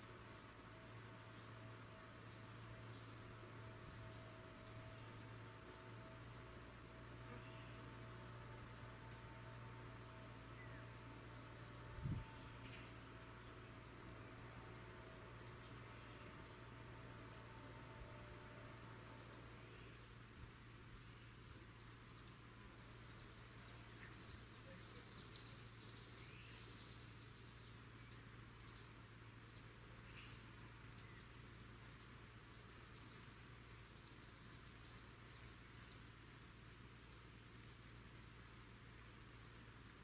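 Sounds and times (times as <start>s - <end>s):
faint bird chirping: 0.0s - 40.0s
low steady hum: 0.0s - 40.0s.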